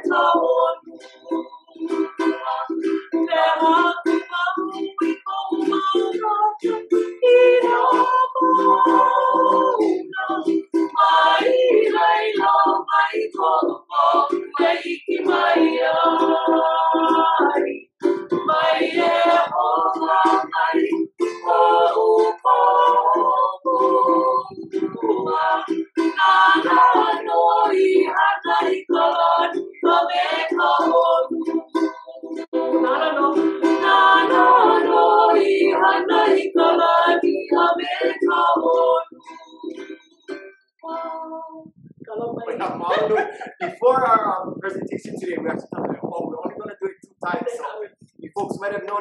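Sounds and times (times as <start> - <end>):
group of voices singing: 0.0 - 41.7, 42.4 - 46.8
strummed ukulele: 0.0 - 46.6.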